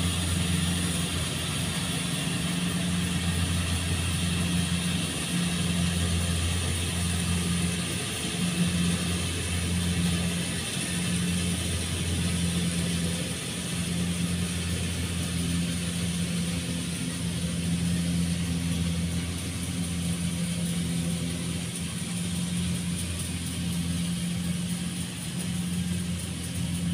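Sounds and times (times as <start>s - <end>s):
harvester engine humming: 0.0s - 26.9s.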